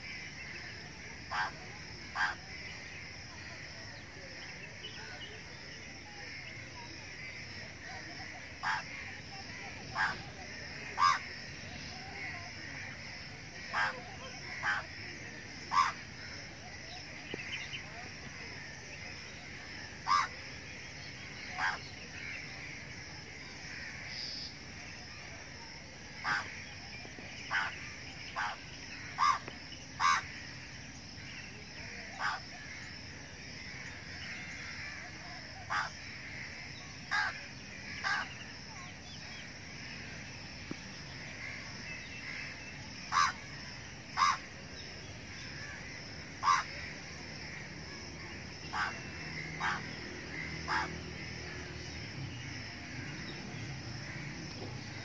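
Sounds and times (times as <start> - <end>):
sharp bird calls: 0.0 - 3.1, 7.8 - 14.9, 15.6 - 18.1, 18.8 - 25.2, 26.1 - 33.0, 33.7 - 47.0, 48.2 - 55.0
high-pitched background bird chorus: 0.0 - 55.0.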